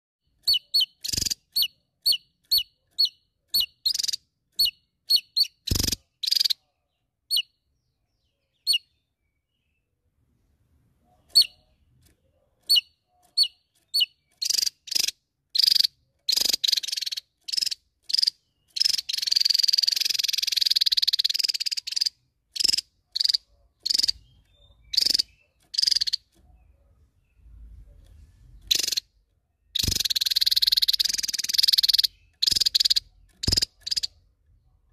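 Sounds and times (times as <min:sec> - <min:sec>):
bird chirping and trilling: 0:00.3 - 0:09.9, 0:11.1 - 0:34.7.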